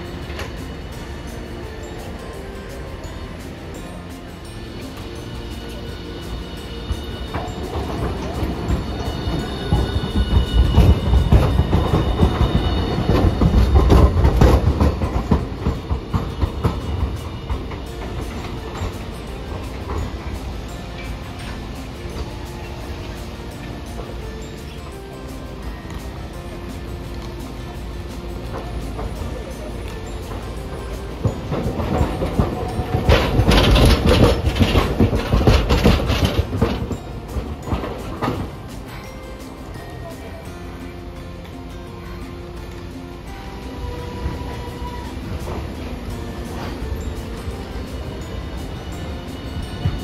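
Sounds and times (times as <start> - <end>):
tram rumbling past: 0.0 - 50.0
wheels clicking over rail joints: 0.0 - 50.0.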